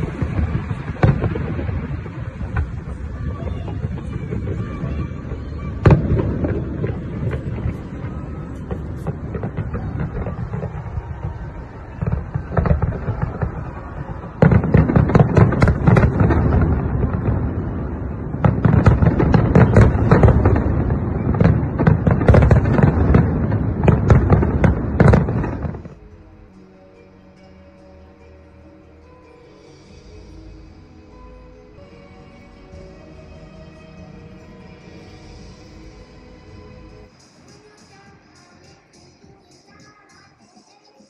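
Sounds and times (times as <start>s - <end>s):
fireworks bursting and crackling: 0.0s - 26.1s, 29.6s - 41.0s.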